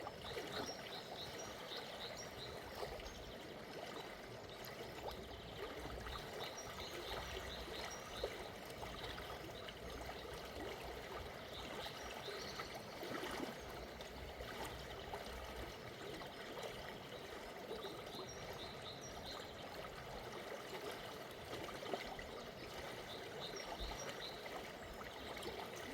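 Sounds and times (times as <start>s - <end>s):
river flowing: 0.0s - 25.9s.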